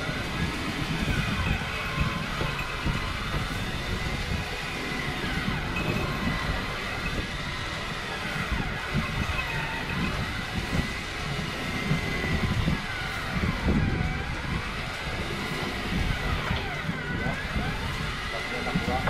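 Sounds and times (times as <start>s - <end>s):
boat engine rumble: 0.0s - 19.0s.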